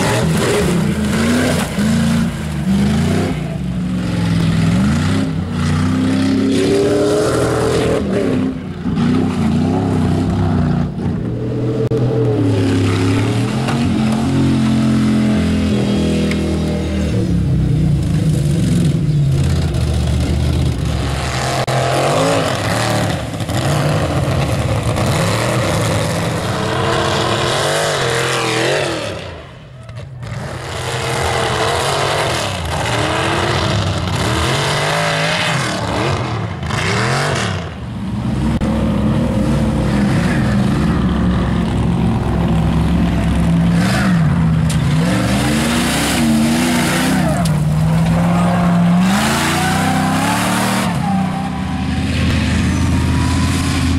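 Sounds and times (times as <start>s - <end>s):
truck engines revving: 0.0s - 53.9s.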